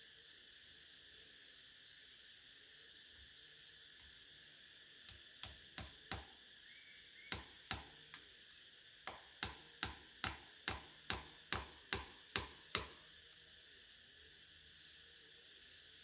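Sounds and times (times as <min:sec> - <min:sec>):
insect hum: 0:00.0 - 0:16.0.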